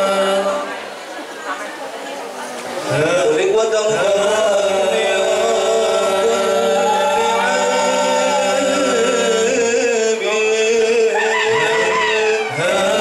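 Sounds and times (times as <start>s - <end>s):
male a cappella group singing: 0.0s - 0.8s, 2.8s - 13.0s.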